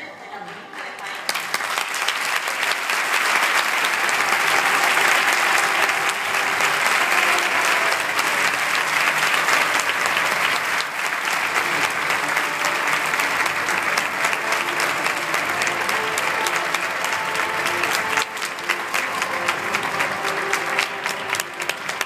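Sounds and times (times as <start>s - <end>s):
audience applauding: 0.4s - 22.0s.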